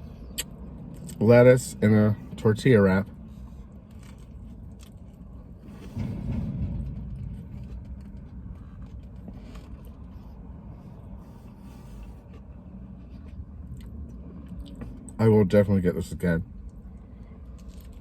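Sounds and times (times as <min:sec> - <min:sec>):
vehicle rumble heard from inside: 0:00.0 - 0:18.0.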